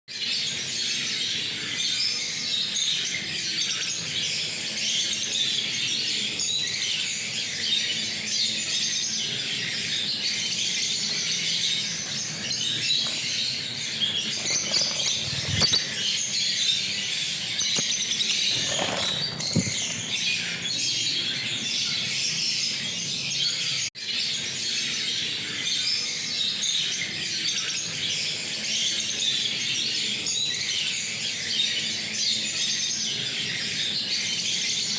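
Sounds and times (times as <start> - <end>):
birds chattering and shrieking: 0.1 - 34.9.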